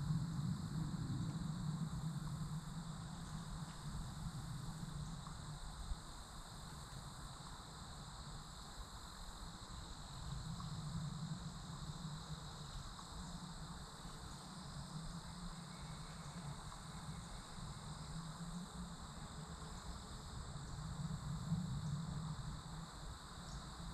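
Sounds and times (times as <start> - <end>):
insects trilling: 0.0 - 23.9
low uneven rumble: 0.0 - 23.9.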